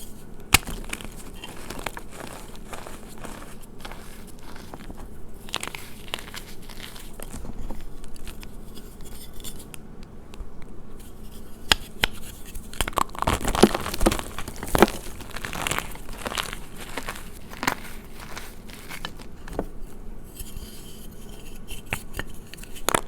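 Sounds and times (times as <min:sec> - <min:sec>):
chalk crackling and crunching: 0:00.0 - 0:23.0.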